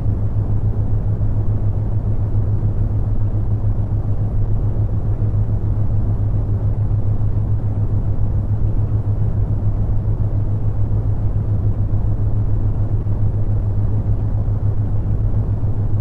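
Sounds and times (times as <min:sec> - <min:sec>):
brown noise rumbling hiss: 0:00.0 - 0:16.0
steady low hum: 0:00.0 - 0:16.0.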